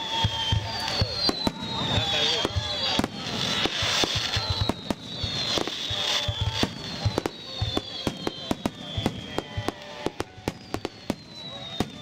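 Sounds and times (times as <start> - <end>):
fireworks bursting with sharp bangs: 0.0 - 12.0
fireworks crackling: 0.0 - 12.0
high falling whistle: 0.0 - 12.0.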